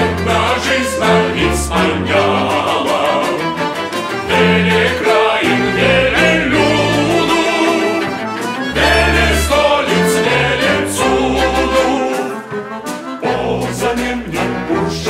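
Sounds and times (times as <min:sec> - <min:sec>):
male chorus singing: 0:00.0 - 0:12.5, 0:13.2 - 0:15.0
small band with tuba: 0:00.0 - 0:15.0.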